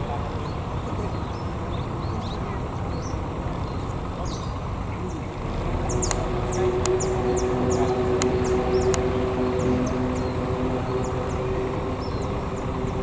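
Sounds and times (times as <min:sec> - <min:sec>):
birds chirping: 0:00.0 - 0:13.0
locomotive engine drone: 0:00.0 - 0:13.0.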